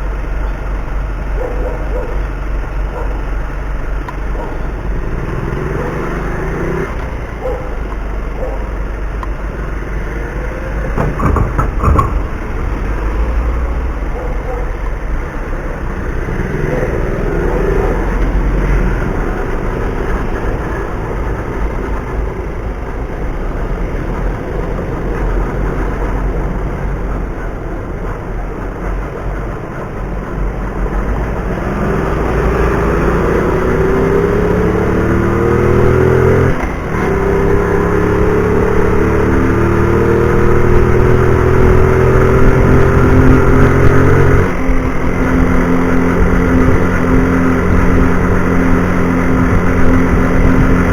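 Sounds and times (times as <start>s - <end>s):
car engine from inside cabin: 0.0s - 50.9s
road noise: 0.0s - 50.9s.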